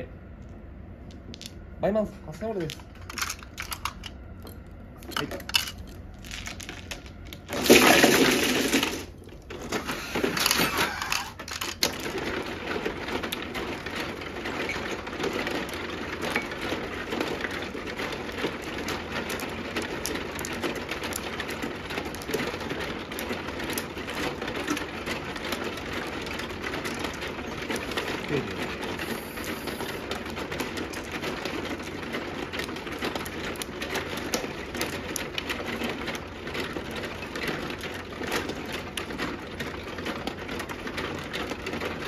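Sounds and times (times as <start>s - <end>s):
rattle of small clicks: 2.6s - 8.9s, 9.5s - 42.0s
mahjong tiles clattering: 2.6s - 42.0s.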